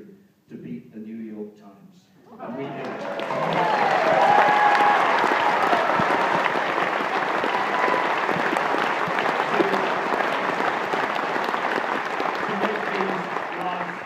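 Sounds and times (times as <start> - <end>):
audience applauding: 2.4 - 14.0.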